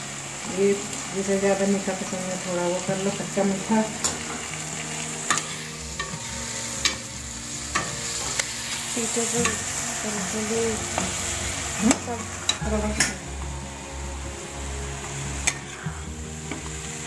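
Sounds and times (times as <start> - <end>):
onion and tomato sizzling in oil: 0.0 - 17.0.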